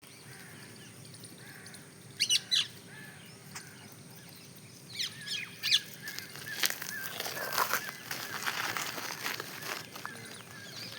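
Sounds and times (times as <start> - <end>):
birds chirping: 0.1 - 10.9.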